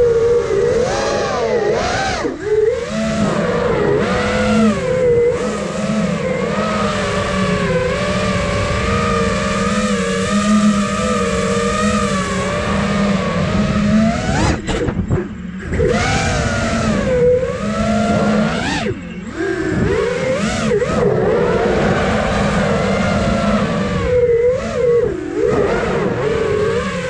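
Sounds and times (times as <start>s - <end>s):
drone propellers whining: 0.0s - 27.0s.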